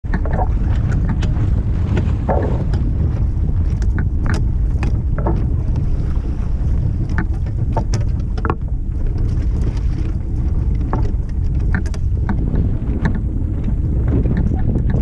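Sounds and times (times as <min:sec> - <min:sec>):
water splashing against hulls: 0:00.0 - 0:15.0
wind buffeting microphone: 0:00.0 - 0:15.0.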